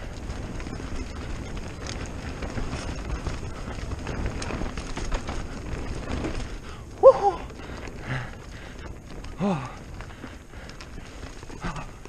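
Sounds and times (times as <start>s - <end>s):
bike rattles and knocks: 0.0s - 12.0s
tyres rumbling on dirt: 0.0s - 12.0s.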